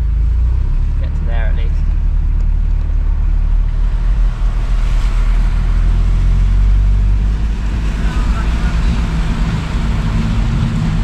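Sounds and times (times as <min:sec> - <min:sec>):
vehicle engine rumble from inside: 0:00.0 - 0:11.0.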